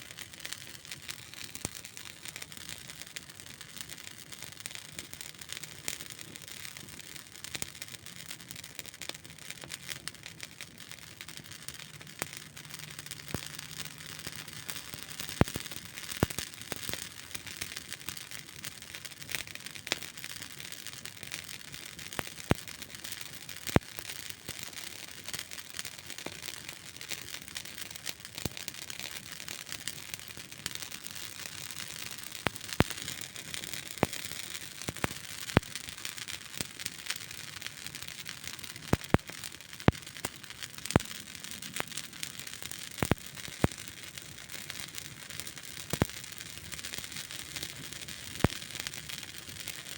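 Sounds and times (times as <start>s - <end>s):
campfire hissing and crackling: 0.0s - 49.9s
fire popping: 0.0s - 49.9s.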